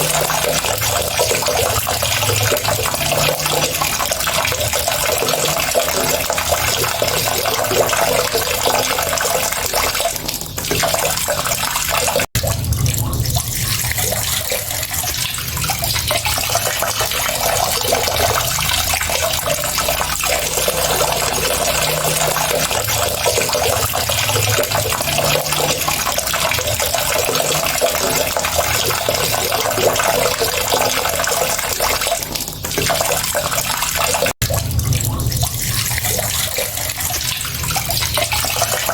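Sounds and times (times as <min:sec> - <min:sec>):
water running: 0:00.0 - 0:38.9.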